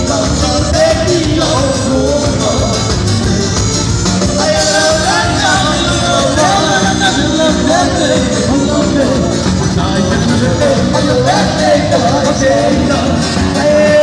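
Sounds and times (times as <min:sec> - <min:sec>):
man singing into a microphone: 0:00.0 - 0:03.1, 0:04.3 - 0:14.0
amplified live band: 0:00.0 - 0:14.0.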